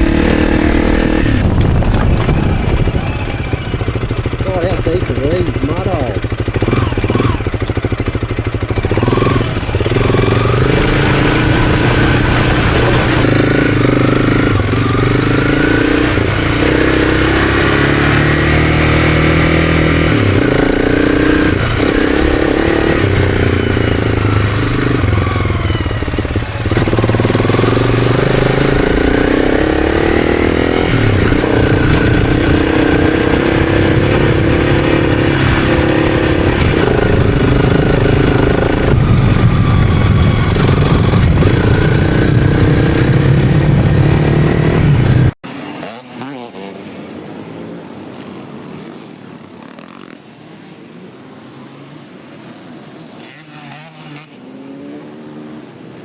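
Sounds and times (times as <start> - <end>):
motorcycle engine revving: 0.0 - 47.6.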